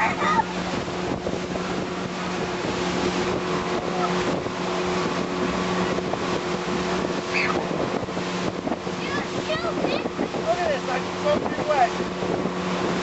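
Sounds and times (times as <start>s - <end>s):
boat motor humming: 0.0s - 13.0s
wind on microphone: 0.0s - 13.0s.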